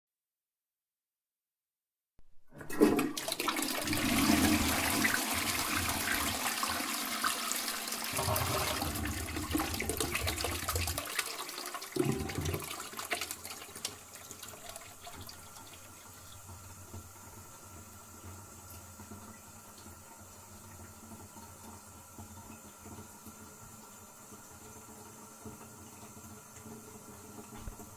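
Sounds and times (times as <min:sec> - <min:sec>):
toilet flushing: 0:02.4 - 0:27.9.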